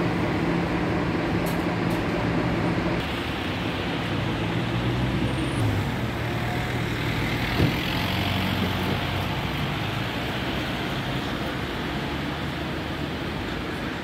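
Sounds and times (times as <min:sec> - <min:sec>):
traffic engine hum: 0:00.0 - 0:14.0.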